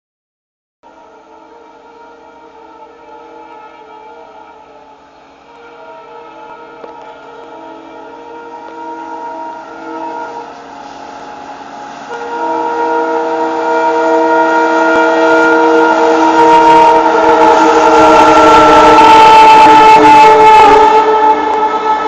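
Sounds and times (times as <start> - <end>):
locomotive horn blast: 0.8 - 22.0
passing train rumble: 0.8 - 22.0.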